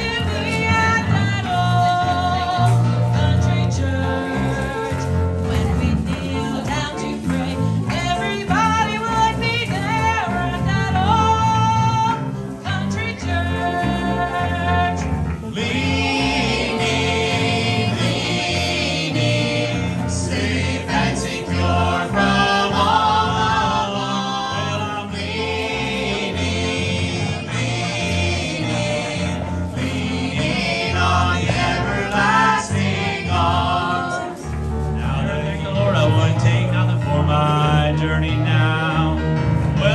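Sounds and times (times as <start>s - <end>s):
instrumental accompaniment: 0.0s - 39.9s
voices singing gospel music: 0.0s - 39.9s.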